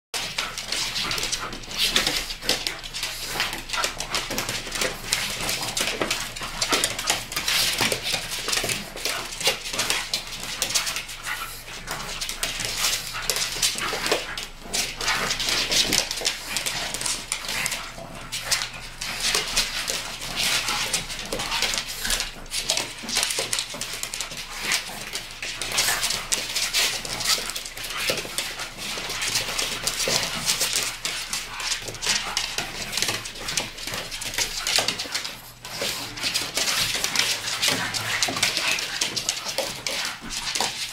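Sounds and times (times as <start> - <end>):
dogs growling and vocalizing: 0.2 - 40.9.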